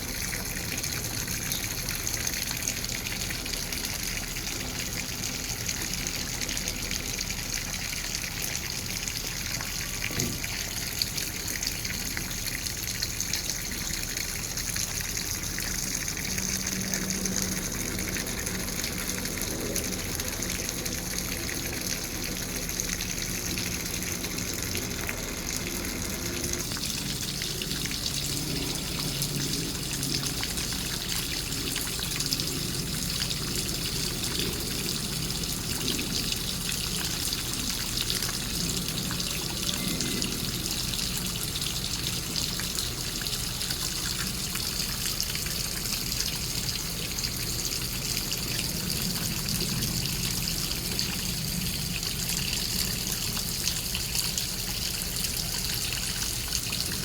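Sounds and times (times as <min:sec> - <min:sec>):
water running and trickling: 0:00.0 - 0:57.0.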